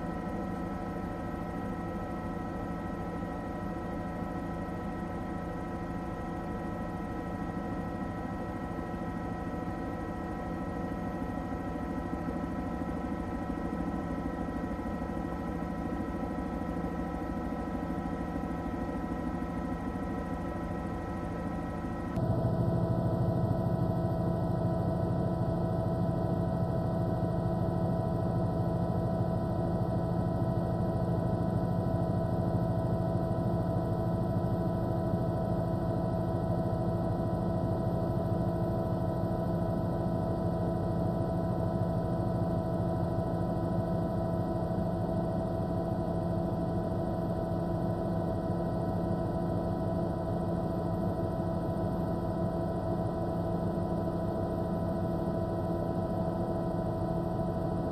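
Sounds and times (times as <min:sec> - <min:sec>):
helicopter in flight: 0:00.0 - 0:57.9.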